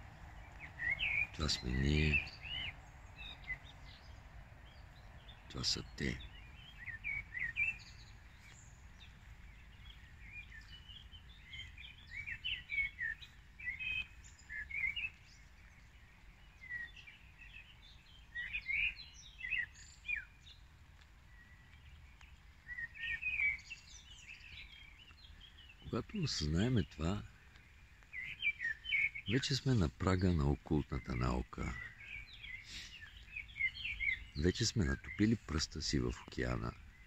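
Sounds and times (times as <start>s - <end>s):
small birds chirping and singing: 0.0s - 37.0s.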